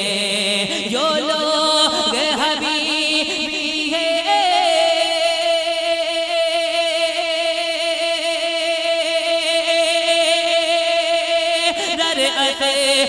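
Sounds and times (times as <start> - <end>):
person singing a long note: 0.0 - 13.0.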